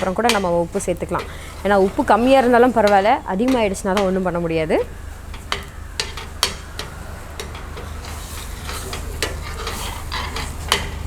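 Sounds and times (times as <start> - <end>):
spatula tapping on pan: 0.0 - 4.4, 5.3 - 7.9, 8.7 - 11.0
masala sizzling in a pan: 0.0 - 11.0.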